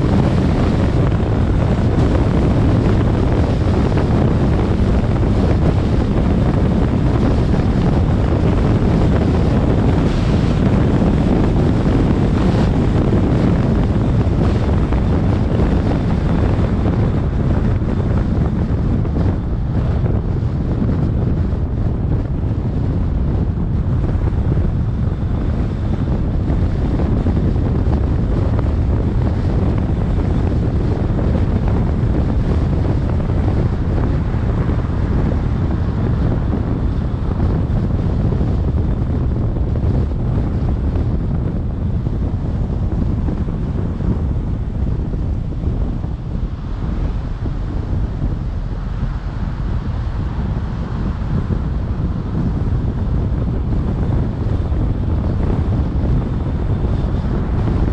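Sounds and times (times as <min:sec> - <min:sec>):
car road noise: 0:00.0 - 0:57.9
wind buffeting microphone: 0:00.0 - 0:57.9.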